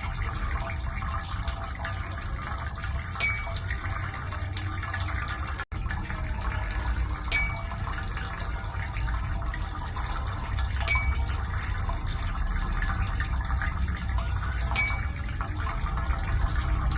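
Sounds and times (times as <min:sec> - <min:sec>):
water running and sloshing: 0:00.0 - 0:16.9.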